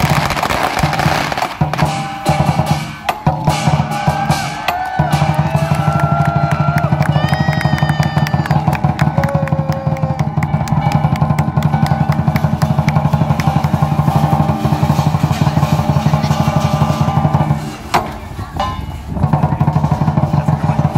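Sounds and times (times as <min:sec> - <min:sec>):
clashing cymbals: 0:00.0 - 0:06.3, 0:10.1 - 0:20.9
large drum beaten fast: 0:00.0 - 0:20.9.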